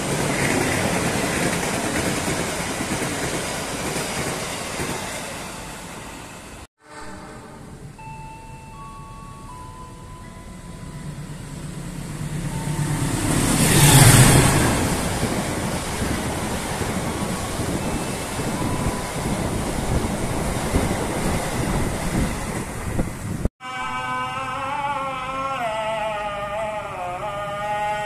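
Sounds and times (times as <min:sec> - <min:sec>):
train passing on rails: 0:00.0 - 0:23.5.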